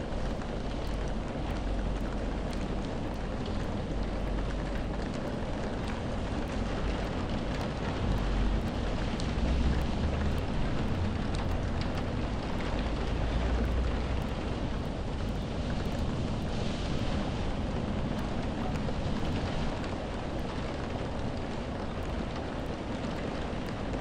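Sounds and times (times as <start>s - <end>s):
raindrops ticking: 0.0s - 24.0s
steady rainfall: 0.0s - 24.0s.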